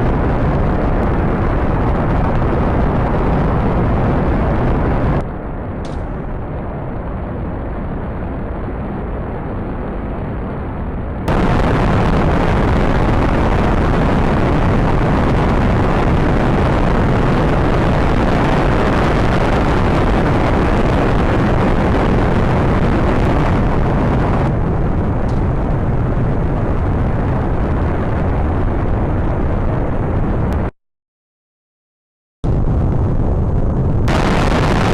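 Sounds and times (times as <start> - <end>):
rocket engine roar: 0.0 - 30.7, 32.5 - 34.9.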